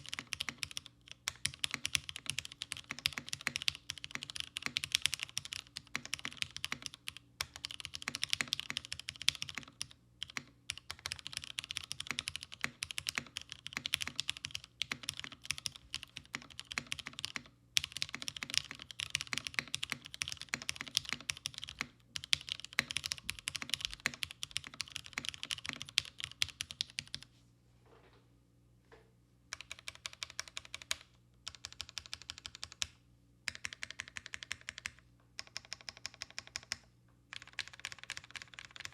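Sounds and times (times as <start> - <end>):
fast mechanical keyboard typing: 0.0 - 27.2, 29.5 - 32.9, 33.5 - 38.9.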